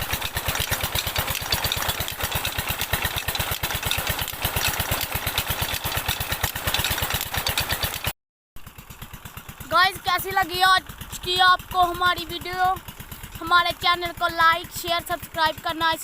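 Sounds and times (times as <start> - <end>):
diesel pump engine running: 0.0 - 16.0.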